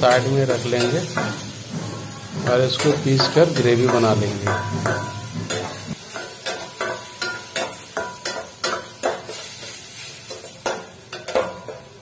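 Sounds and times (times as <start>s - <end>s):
metal spatula scraping a pan: 0.0s - 11.8s
frying sizzle: 0.0s - 12.0s.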